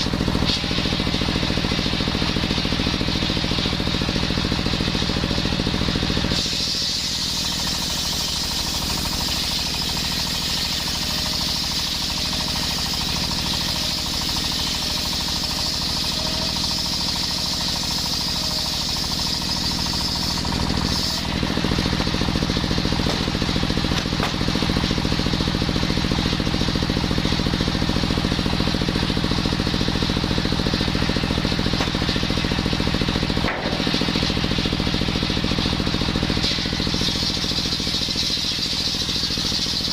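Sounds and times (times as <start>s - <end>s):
circular saw engine running: 0.0s - 39.9s
high saw whine: 0.0s - 39.9s.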